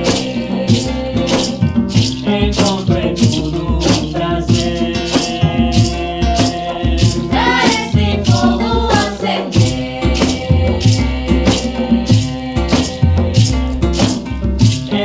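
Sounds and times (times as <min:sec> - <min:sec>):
acoustic guitar: 0:00.0 - 0:15.0
djembe drumming: 0:00.0 - 0:15.0
maracas rattling: 0:00.0 - 0:15.0.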